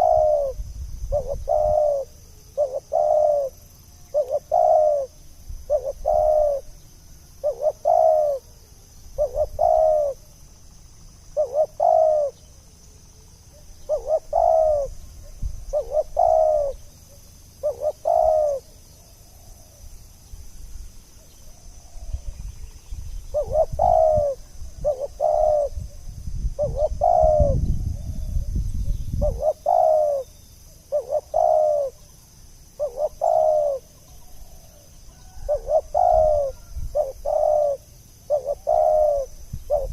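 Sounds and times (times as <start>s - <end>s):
dove cooing: 0.0s - 6.8s, 7.4s - 10.3s, 11.3s - 12.6s, 13.5s - 19.8s, 23.3s - 28.6s, 29.2s - 39.9s.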